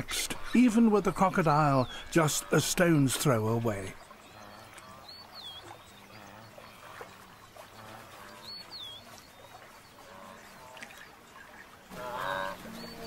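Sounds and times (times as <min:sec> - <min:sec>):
water lapping and trickling: 0:00.0 - 0:13.0.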